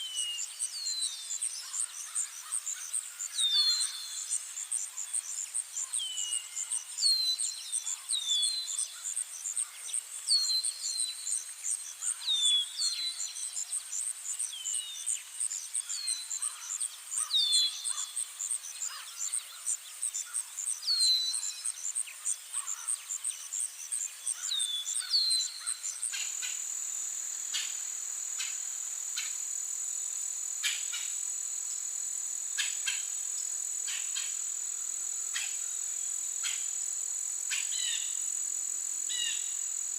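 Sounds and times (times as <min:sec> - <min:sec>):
pulsing insect chirping: 0:00.0 - 0:39.9
steady high insect trill: 0:00.0 - 0:39.9.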